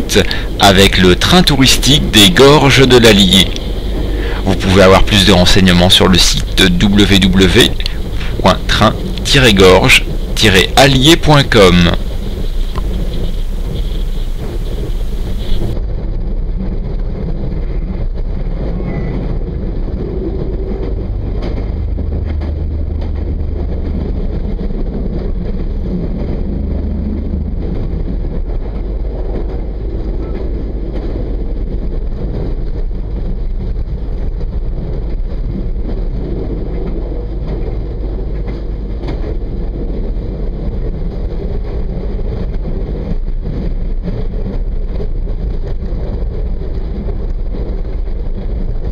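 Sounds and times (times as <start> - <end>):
low hum: 0.0 - 48.9
train wheels rumbling on track: 0.0 - 48.9.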